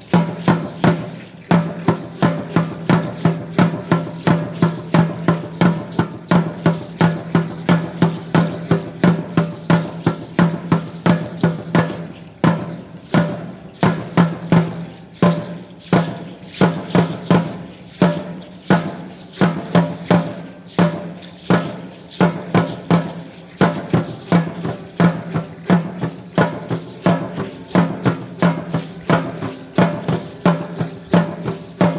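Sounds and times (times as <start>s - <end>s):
drum beating dance rhythm: 0.0s - 31.9s.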